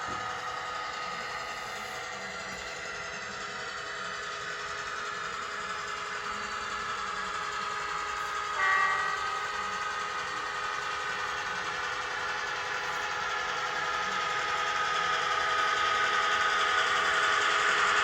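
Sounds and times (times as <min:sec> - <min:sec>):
model locomotive engine sound: 0:00.0 - 0:18.0.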